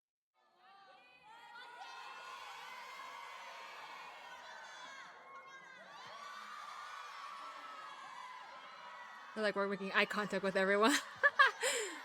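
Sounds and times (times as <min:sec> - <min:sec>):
crowd screaming and cheering: 0:01.2 - 0:12.0.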